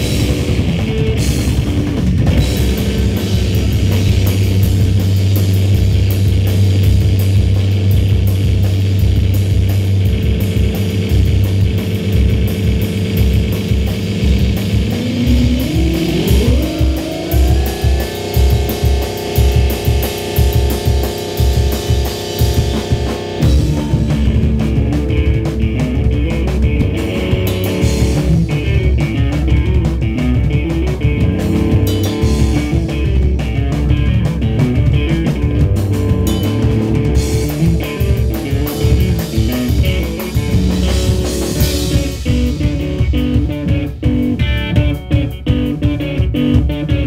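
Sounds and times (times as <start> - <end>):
electric guitar: 0.0 - 47.0
pounding drum beat: 0.0 - 47.0.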